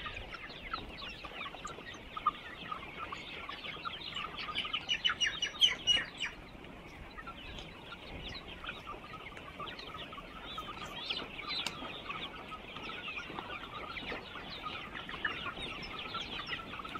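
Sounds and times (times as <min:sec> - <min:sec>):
chickens clucking and calling: 0:00.0 - 0:16.9.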